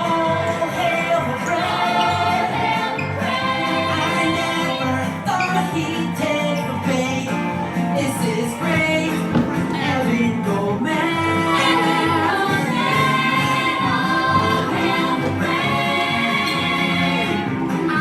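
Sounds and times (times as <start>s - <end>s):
several voices singing together: 0.0s - 7.3s, 8.0s - 18.0s
instrumental backing: 0.6s - 18.0s.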